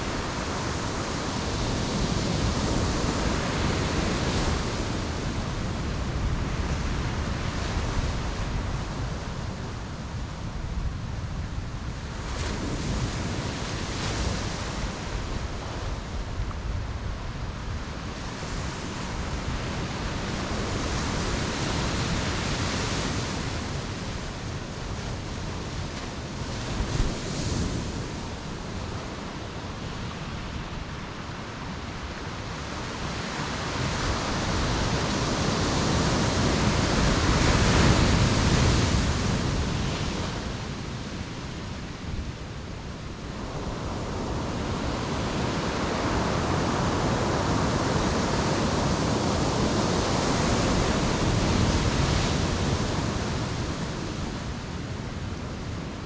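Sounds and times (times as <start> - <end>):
ocean waves breaking on beach: 0.0 - 56.0
wind on microphone: 0.0 - 56.0.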